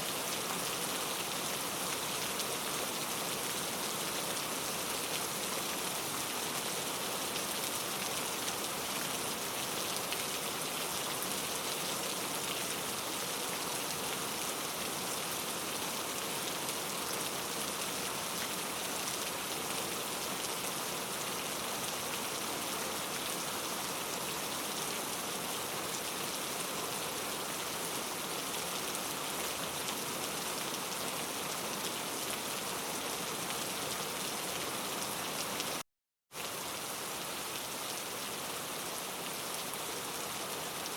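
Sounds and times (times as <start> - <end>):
steady rain falling: 0.0 - 35.8, 36.4 - 40.9.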